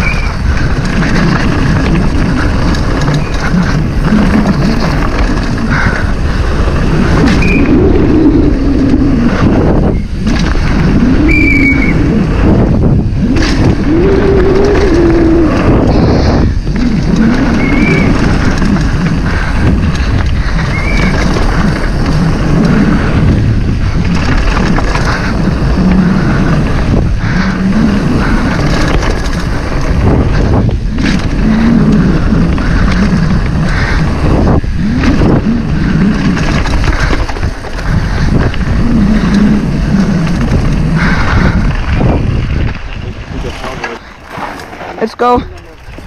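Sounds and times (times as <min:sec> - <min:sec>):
tyres running over dirt: 0:00.0 - 0:46.0
wind rushing over microphone: 0:00.0 - 0:46.0.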